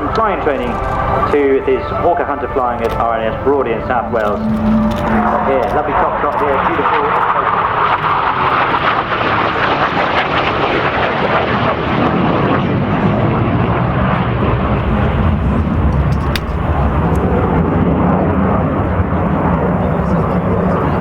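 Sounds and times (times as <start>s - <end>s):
jet flypast: 0.0s - 21.0s.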